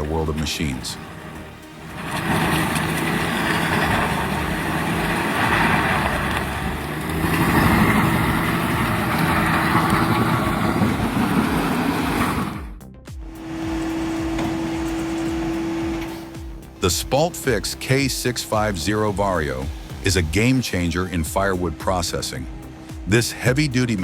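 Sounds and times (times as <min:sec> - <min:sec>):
engine running under load: 0:00.0 - 0:24.0
stump grinder grinding wood: 0:00.0 - 0:24.0.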